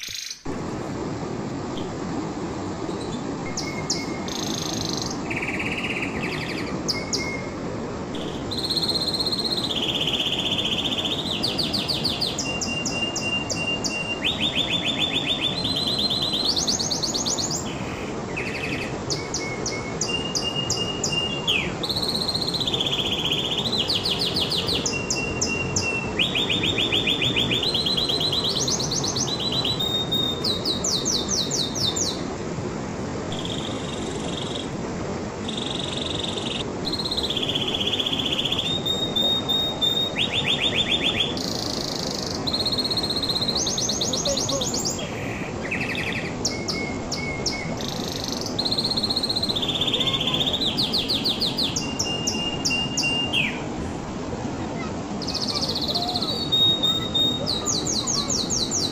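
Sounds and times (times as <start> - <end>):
low background hiss: 0.0 - 58.9
canary singing: 3.0 - 7.5, 8.2 - 32.2, 35.4 - 53.6, 55.2 - 58.9.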